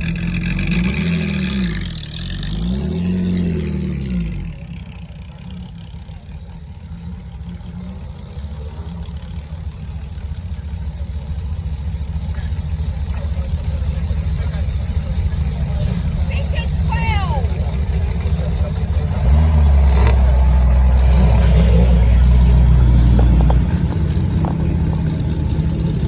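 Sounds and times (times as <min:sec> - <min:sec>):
deep engine rumble: 0:00.0 - 0:26.0
racing car engine blipping and idling: 0:00.0 - 0:26.0.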